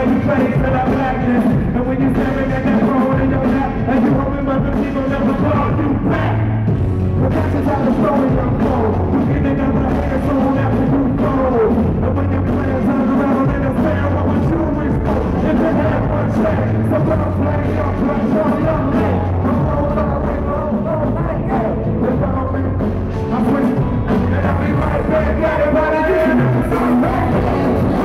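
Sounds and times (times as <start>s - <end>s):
live band music: 0.0s - 28.0s
person singing: 0.0s - 28.0s.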